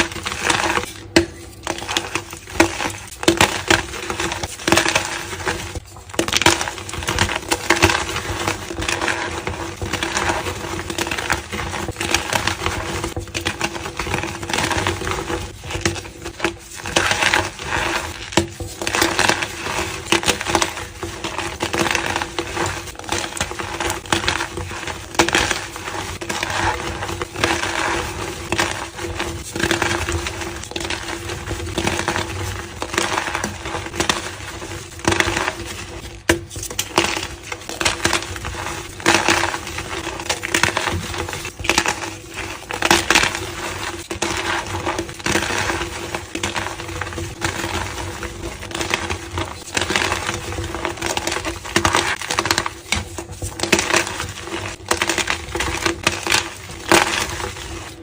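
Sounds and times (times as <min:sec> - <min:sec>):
chalk blocks being crushed: 0:00.0 - 0:58.0.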